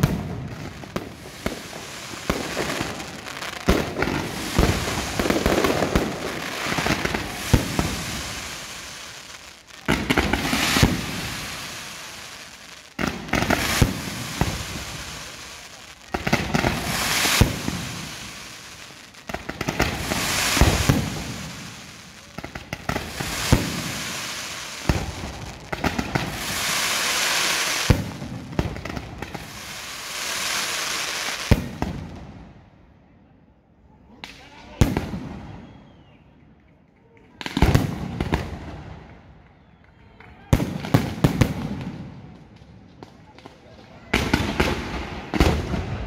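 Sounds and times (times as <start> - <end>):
fireworks bangs: 0.0 - 32.5, 37.4 - 39.2, 40.5 - 46.0
hissing crackling fireworks: 0.0 - 32.7, 34.1 - 36.1, 37.0 - 46.0.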